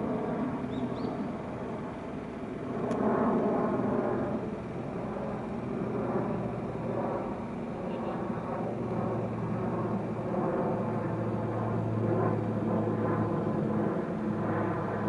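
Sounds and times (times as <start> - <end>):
propeller airplane drone: 0.0 - 15.0.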